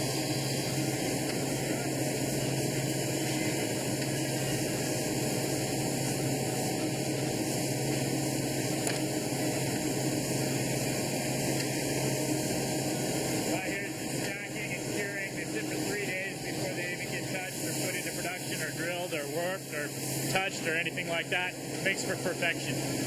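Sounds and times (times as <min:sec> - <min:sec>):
industrial machinery drone: 0:00.0 - 0:23.0.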